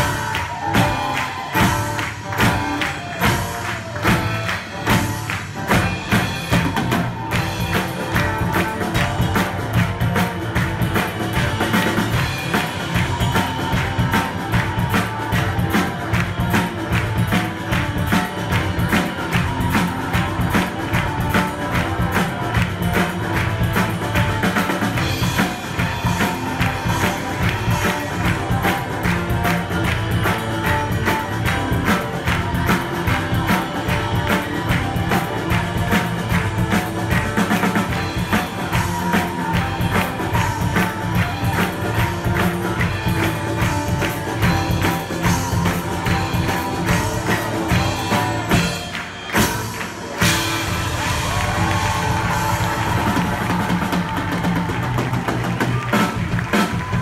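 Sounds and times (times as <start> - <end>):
folk-rock band playing: 0.0 - 57.0.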